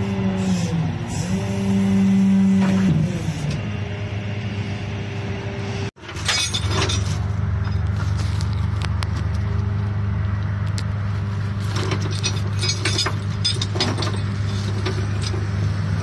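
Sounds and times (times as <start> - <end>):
truck engine idling and revving: 0.0 - 16.0.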